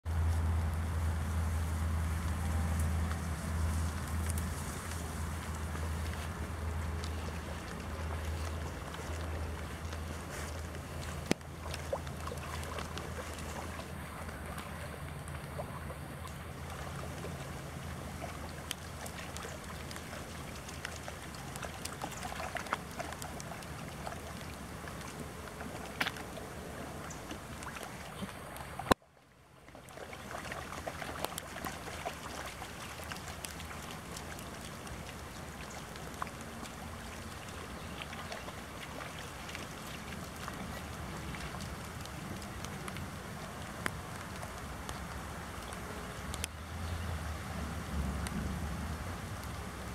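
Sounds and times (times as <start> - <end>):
wind rumbling on microphone: 0.1 - 29.0, 32.4 - 49.9
puppies splashing in water: 0.1 - 49.9
rain falling on pond: 0.1 - 49.9.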